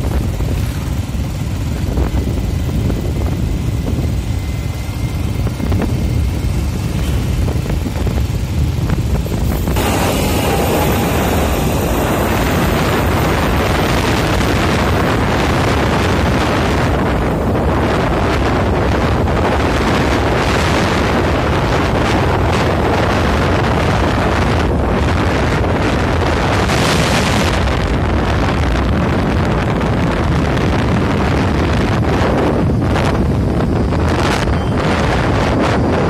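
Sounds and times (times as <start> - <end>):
road noise from moving vehicle: 0.0 - 36.0
wind on microphone: 0.0 - 36.0.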